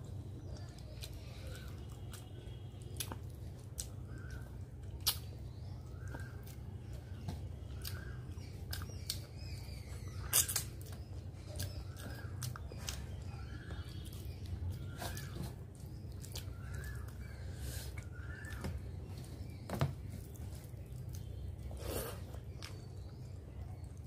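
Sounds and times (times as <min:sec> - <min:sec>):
chewing and mouth clicks: 0:00.4 - 0:07.1, 0:07.7 - 0:18.7, 0:20.2 - 0:24.0.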